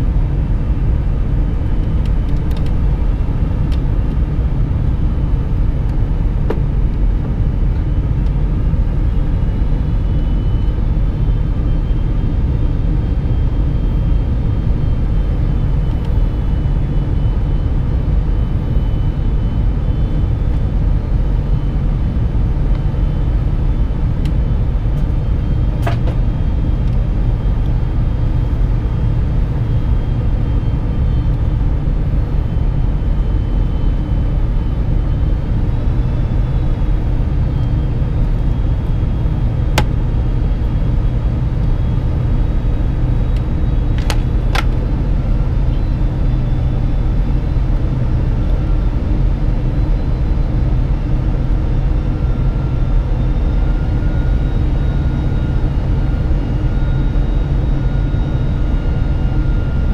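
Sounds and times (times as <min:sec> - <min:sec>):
low rumble of airflow and engines: 0:00.0 - 0:59.9
thin engine whine: 0:00.0 - 0:59.9.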